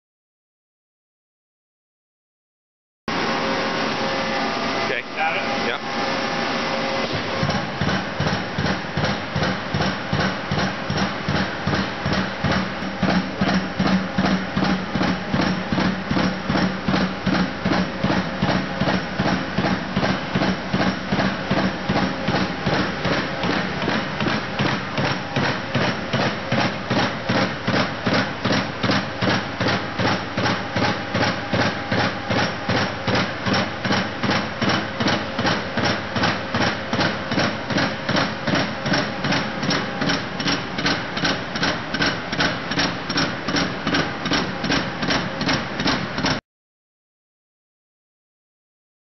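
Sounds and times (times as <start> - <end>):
machine hum: 3.1 - 46.4
stamping press ram striking: 7.1 - 46.4.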